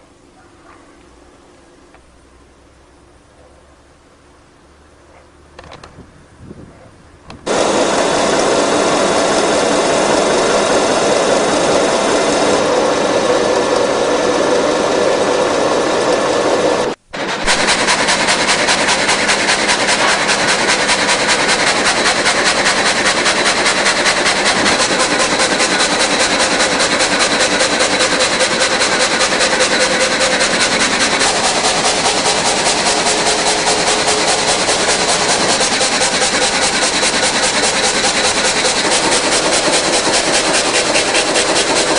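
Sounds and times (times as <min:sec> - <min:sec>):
rip saw machine running: 0:07.4 - 0:41.9.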